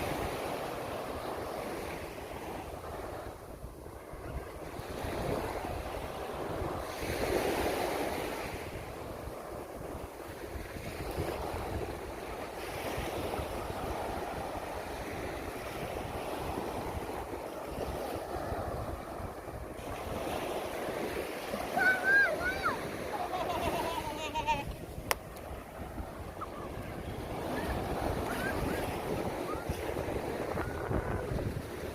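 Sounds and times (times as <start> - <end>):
wind rumbling on microphone: 0.0 - 22.0, 22.7 - 31.9
sea waves washing onto beach: 0.0 - 31.9.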